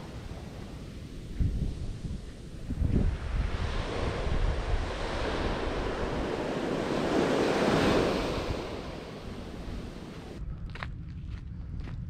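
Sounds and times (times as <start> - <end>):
ocean waves on sandy beach: 0.0 - 10.4
wind buffeting microphone: 0.0 - 12.0.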